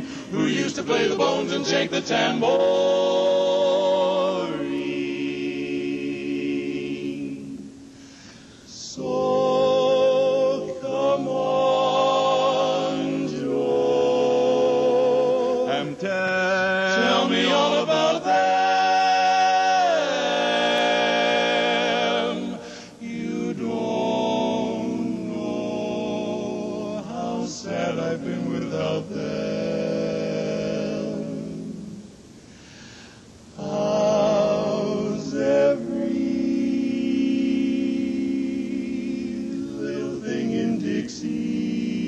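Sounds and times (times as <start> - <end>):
men singing a cappella harmony: 0.0 - 42.0.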